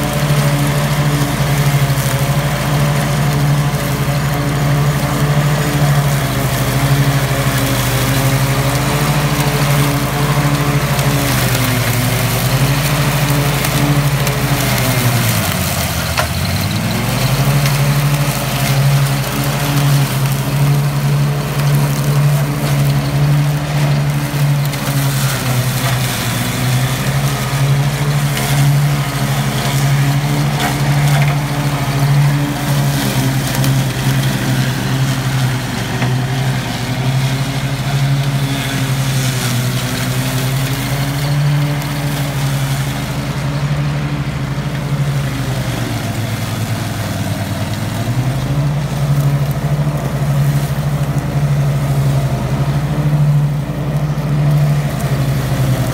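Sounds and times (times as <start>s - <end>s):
ride-on lawn mower engine: 0.0s - 55.9s.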